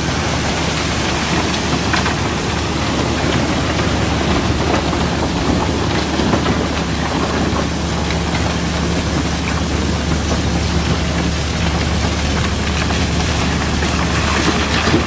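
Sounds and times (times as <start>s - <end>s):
stones rattling and tumbling: 0.0s - 15.0s.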